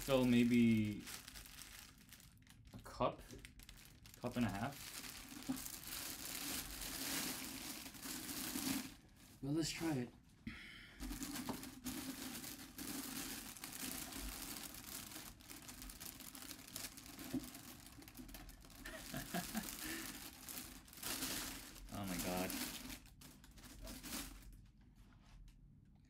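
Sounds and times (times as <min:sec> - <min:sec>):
plastic bag crinkling: 0:00.0 - 0:09.6, 0:11.0 - 0:24.7.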